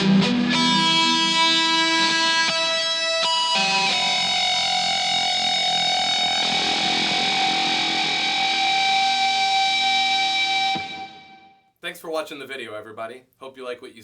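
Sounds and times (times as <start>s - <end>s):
electric guitar chord with reverb: 0.0s - 11.5s.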